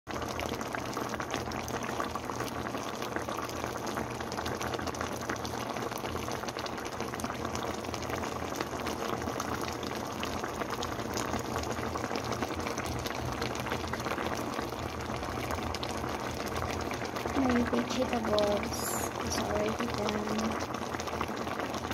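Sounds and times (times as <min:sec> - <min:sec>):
stew bubbling in a pot: 0:00.1 - 0:21.9.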